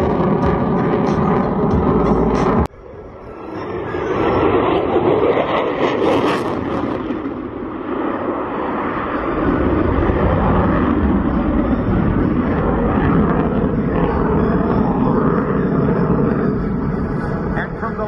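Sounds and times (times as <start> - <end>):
jet flying past overhead: 0.0 - 18.0.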